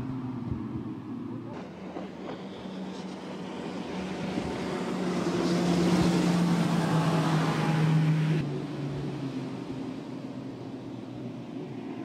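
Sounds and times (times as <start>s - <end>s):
boat outboard motors at speed: 0.0s - 12.0s.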